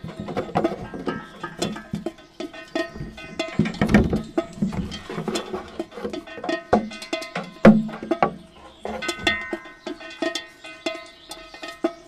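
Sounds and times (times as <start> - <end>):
metal saucepans clanking: 0.0 - 12.0.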